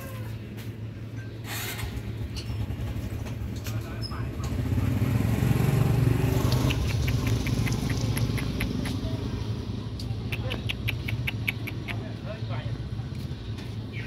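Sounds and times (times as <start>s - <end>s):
vehicle engine running: 1.8s - 14.0s.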